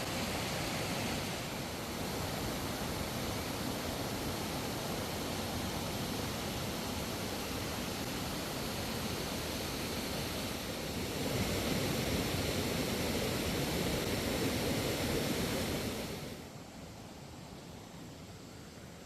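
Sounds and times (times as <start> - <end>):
waterfall rushing: 0.0 - 16.5.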